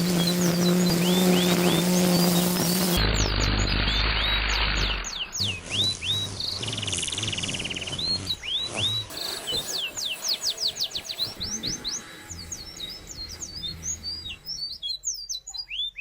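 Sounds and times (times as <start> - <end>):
small birds chirping and singing: 0.0 - 16.0.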